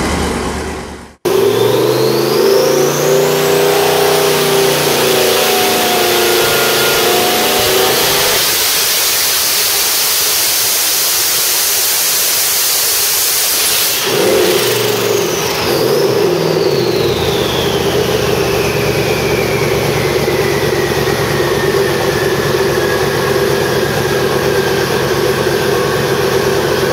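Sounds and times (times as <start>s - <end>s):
engine running hard under load: 0.0s - 10.7s, 14.0s - 26.9s
turbocharger whine: 0.0s - 26.9s.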